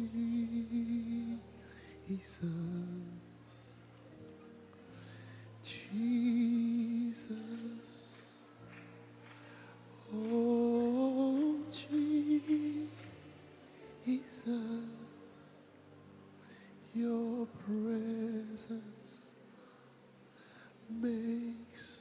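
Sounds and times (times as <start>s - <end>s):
soft keyboard pad chords: 0.0s - 22.0s.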